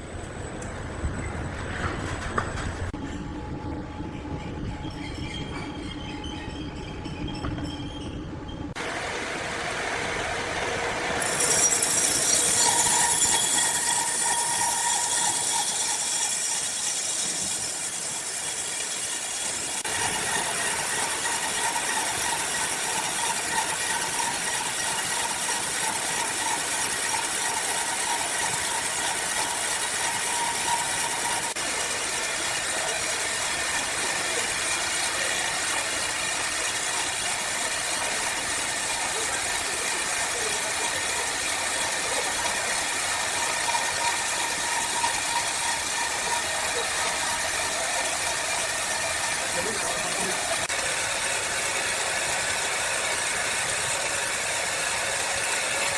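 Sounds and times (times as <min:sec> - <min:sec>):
sawmill machinery running: 0:08.8 - 0:55.9.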